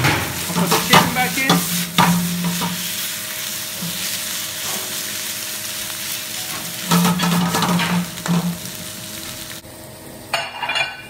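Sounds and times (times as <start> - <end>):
spatula scraping and knocking wok: 0.0 - 9.6
food sizzling in a wok: 0.0 - 11.0.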